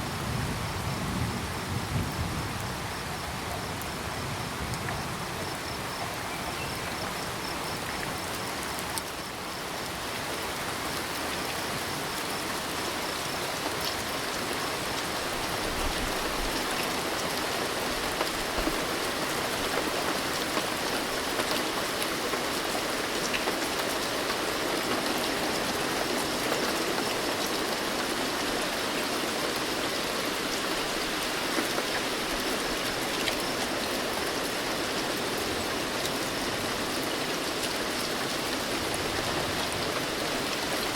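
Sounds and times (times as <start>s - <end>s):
steady rain falling: 0.0s - 40.9s
crickets chirping: 0.2s - 40.9s.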